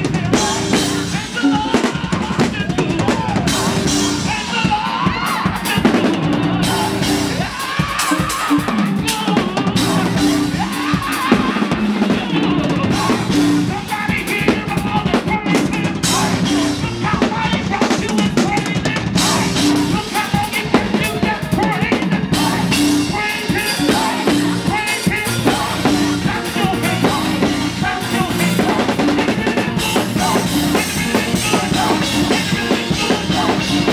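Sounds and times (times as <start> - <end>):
drum kit fast groove: 0.0 - 33.9.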